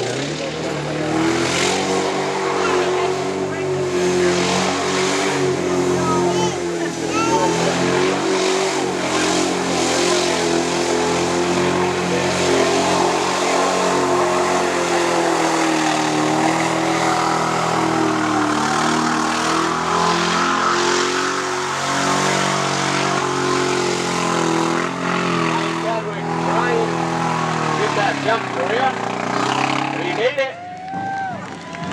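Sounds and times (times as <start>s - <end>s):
truck engine running: 0.0s - 31.9s.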